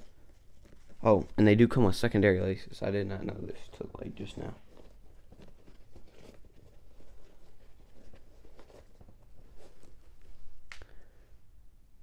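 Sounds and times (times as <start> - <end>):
hands rustling leather sneaker: 0.0 - 11.4.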